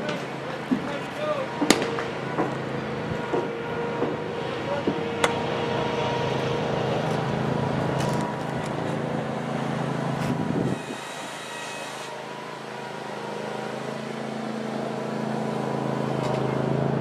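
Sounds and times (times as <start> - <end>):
low rumble of vehicle engine: 0.0 - 17.0.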